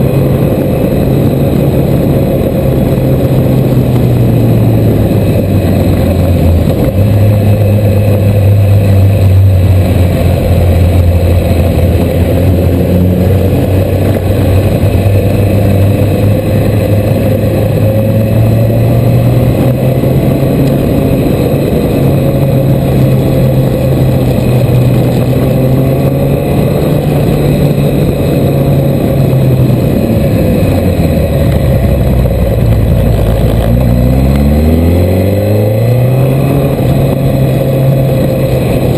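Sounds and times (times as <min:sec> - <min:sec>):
motorcycle engine running: 0:00.0 - 0:38.9
rushing noise: 0:00.0 - 0:38.9.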